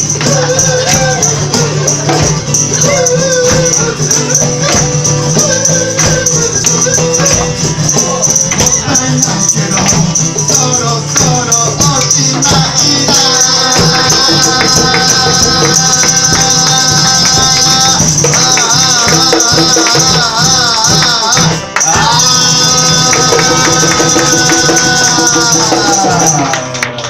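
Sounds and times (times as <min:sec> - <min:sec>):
acoustic guitar strumming: 0:00.0 - 0:27.0
hand claps: 0:00.0 - 0:27.0
man singing long notes: 0:00.0 - 0:27.0.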